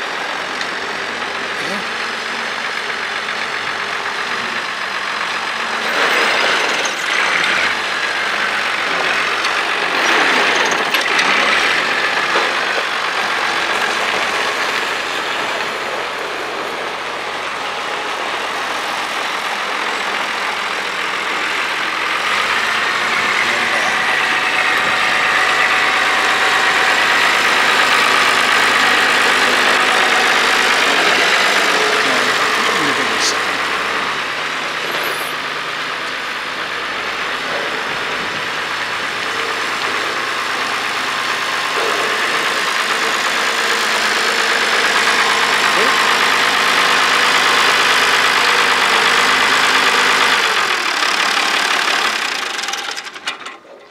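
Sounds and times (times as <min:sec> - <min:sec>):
high turbo whine: 0:00.0 - 0:53.1
tractor diesel engine running: 0:00.0 - 0:53.9.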